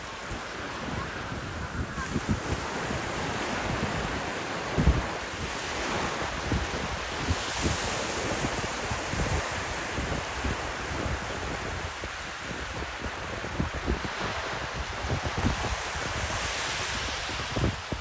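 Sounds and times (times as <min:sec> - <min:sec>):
ocean surf washing: 0:00.0 - 0:18.0
wind buffeting microphone: 0:00.0 - 0:18.0.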